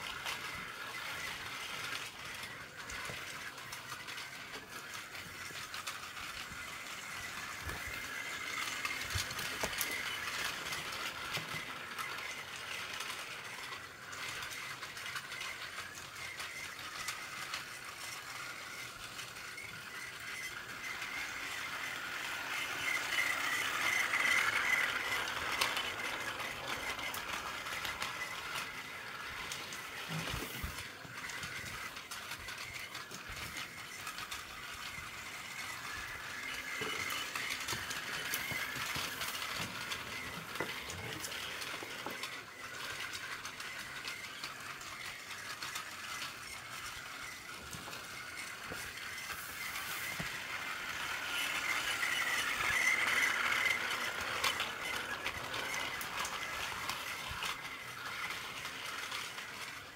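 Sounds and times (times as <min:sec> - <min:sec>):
rattle of wheels on track: 0:00.0 - 0:59.9
toy train motor whine: 0:00.0 - 0:59.9.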